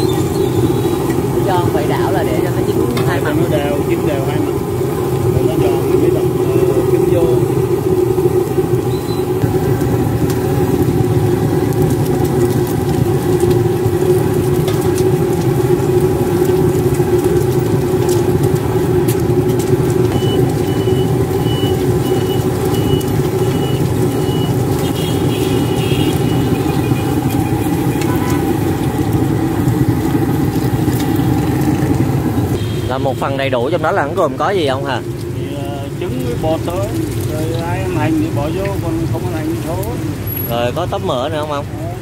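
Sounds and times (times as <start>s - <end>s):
burner roaring: 0.0s - 42.0s
motor traffic: 0.0s - 42.0s
oil sizzling in a wok: 0.0s - 42.0s.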